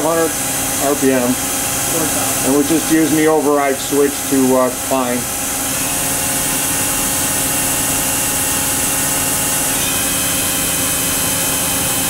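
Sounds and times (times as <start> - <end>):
machine spindle whine: 0.0 - 12.0.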